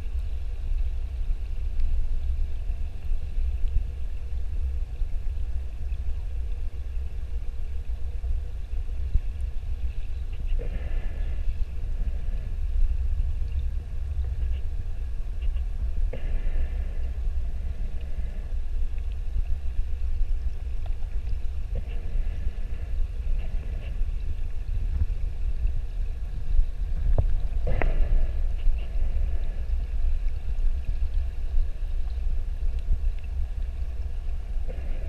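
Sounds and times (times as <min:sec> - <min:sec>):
faint high whine: 0:00.0 - 0:35.0
muffled underwater rumble: 0:00.0 - 0:35.0.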